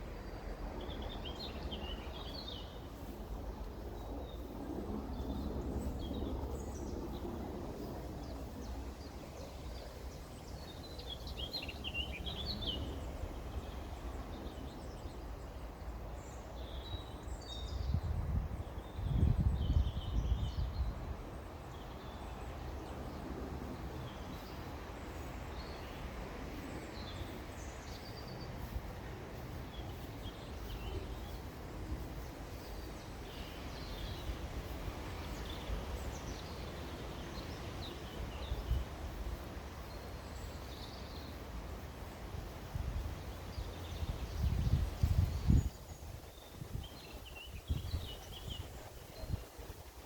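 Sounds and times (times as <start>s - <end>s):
small birds singing and chirping: 0.0s - 7.4s, 8.1s - 50.0s.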